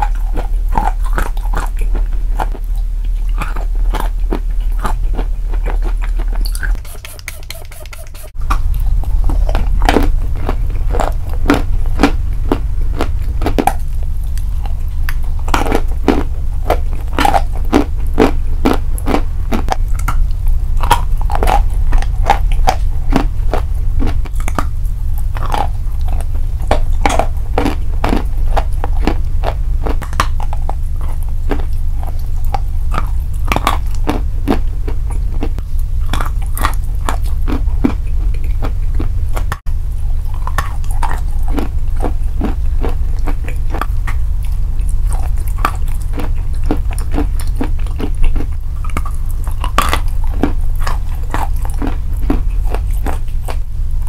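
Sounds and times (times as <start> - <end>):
chewing dry crunches: 0.0 - 54.0
low steady hum: 0.0 - 54.0.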